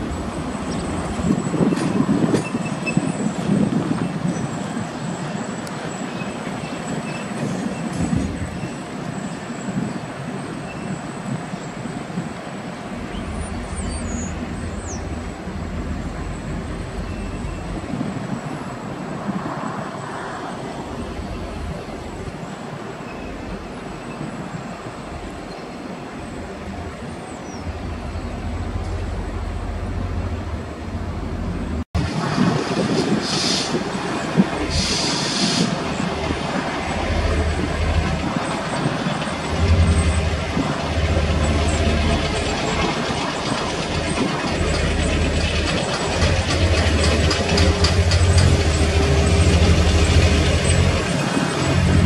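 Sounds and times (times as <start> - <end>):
freight train rumbling and rattling: 0.0 - 52.0.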